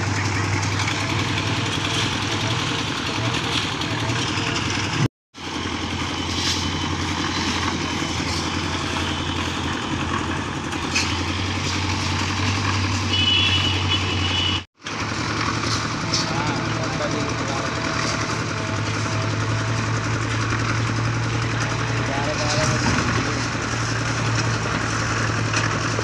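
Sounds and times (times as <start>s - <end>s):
diesel engines running: 0.0s - 26.0s.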